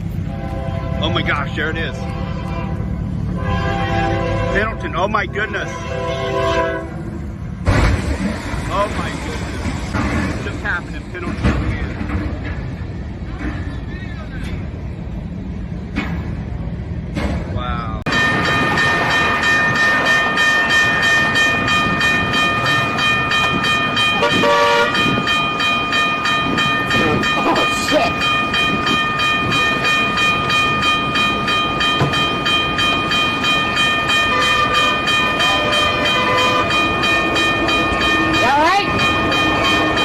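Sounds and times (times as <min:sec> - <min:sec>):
train passing: 0:00.0 - 0:40.0.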